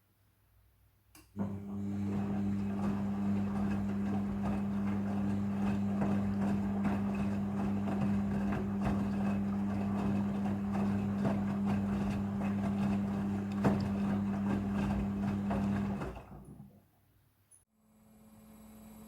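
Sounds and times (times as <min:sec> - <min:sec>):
washing machine motor hum: 0:01.4 - 0:16.8.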